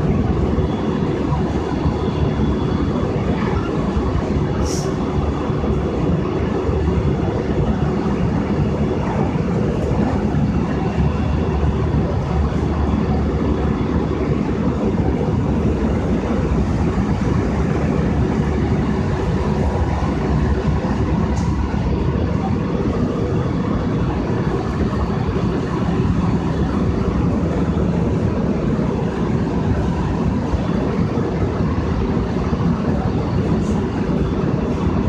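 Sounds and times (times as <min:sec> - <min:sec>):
electric train running: 0:00.0 - 0:35.0.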